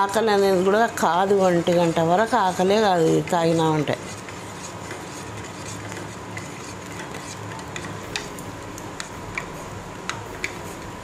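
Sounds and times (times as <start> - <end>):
steady background hum: 0.0 - 11.0
spoon stirring porridge in a pot: 0.4 - 11.0.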